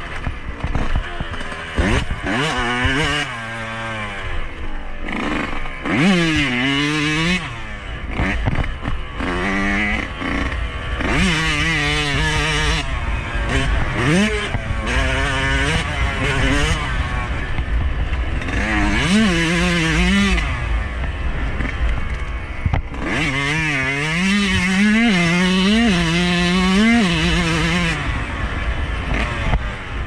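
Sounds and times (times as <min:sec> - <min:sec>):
two-stroke motorcycle engine revving: 0:00.0 - 0:30.0.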